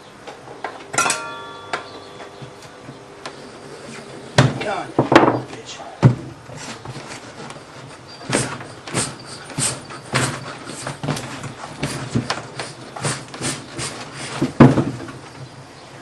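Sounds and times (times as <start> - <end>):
tools knocking and scraping tyre: 0.2 - 15.5.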